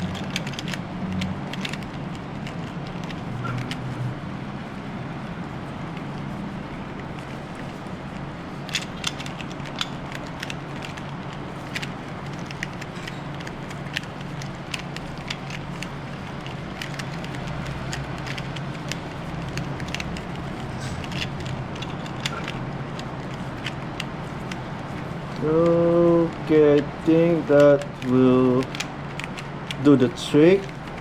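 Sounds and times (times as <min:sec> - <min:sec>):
plastic puzzle clicks: 0:00.0 - 0:03.9, 0:07.2 - 0:31.0
steady low hum: 0:00.0 - 0:31.0.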